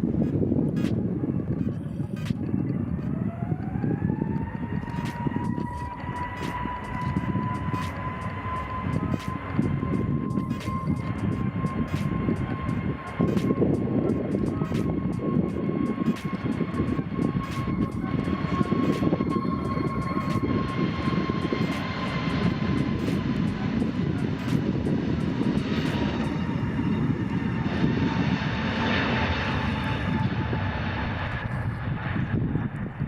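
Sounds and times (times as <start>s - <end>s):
jet airliner engines rumbling: 0.0s - 33.0s.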